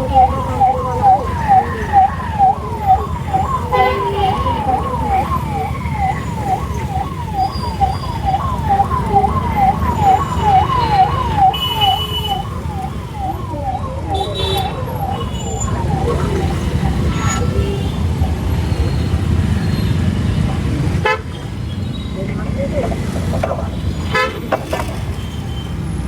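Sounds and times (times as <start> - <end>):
emergency vehicle siren: 0.0 - 21.6
low wind: 0.0 - 26.0
road rumble: 0.0 - 26.0.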